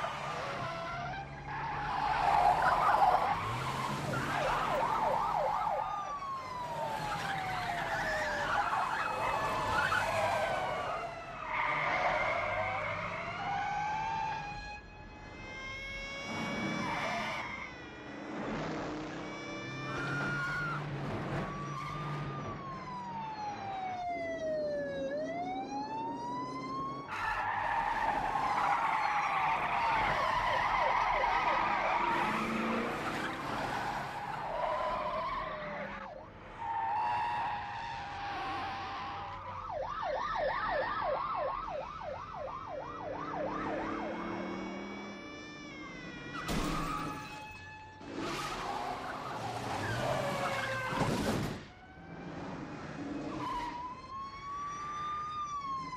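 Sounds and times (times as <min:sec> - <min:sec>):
car engines running: 0:00.0 - 0:23.9, 0:24.7 - 0:55.9
police sirens wailing: 0:00.0 - 0:55.9.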